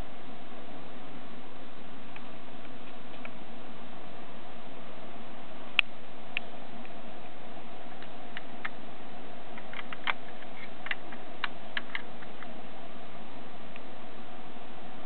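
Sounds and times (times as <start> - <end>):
background hiss: 0.0 - 15.0
faint hum: 0.0 - 15.0.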